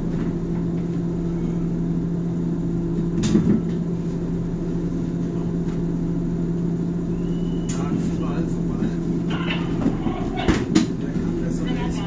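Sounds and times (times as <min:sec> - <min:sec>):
rail vehicle drone: 0:00.0 - 0:12.0.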